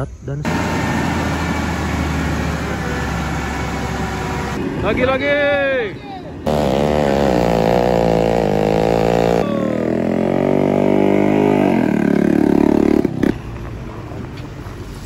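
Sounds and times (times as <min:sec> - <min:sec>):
road machinery engines: 0:00.0 - 0:15.0
motorbike engines running: 0:00.5 - 0:15.0.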